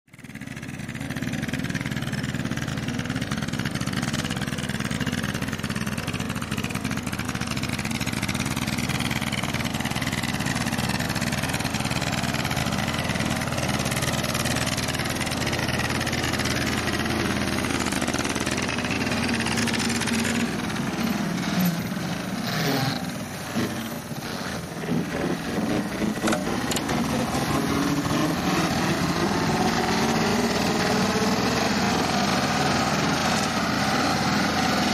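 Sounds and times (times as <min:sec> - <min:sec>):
tractor diesel engine under load: 0:00.1 - 0:34.9
rotary slasher cutting grass: 0:01.0 - 0:34.9.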